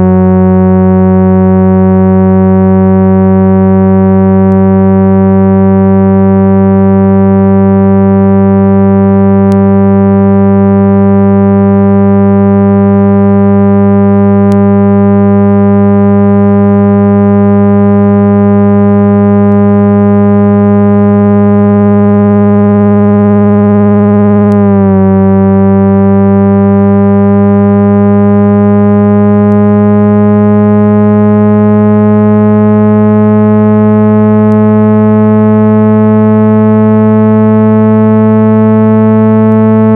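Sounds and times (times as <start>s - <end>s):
low-pitched electronic tone: 0.0s - 39.9s.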